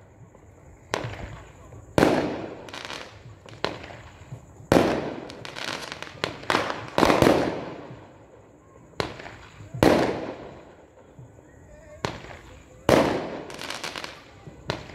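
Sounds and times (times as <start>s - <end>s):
firework pops and crackles: 0.0s - 14.9s
fireworks bursting: 0.0s - 14.9s.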